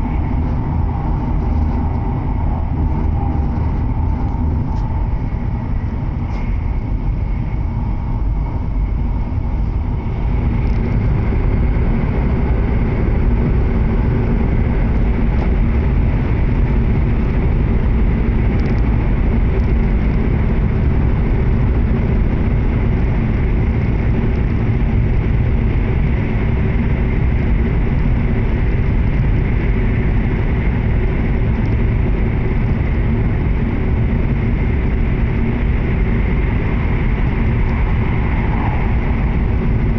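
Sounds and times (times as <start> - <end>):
faint steady whine: 0.0 - 39.9
train running rumble: 0.0 - 39.9.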